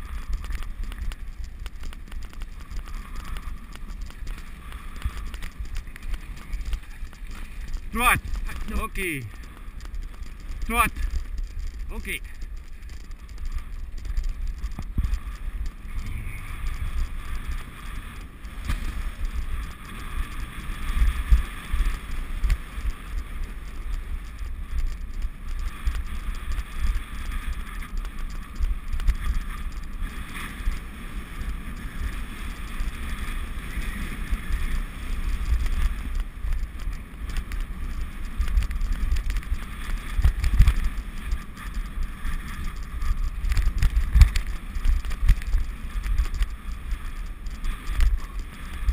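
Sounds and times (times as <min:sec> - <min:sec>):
bicycle rattling: 0:00.0 - 0:48.9.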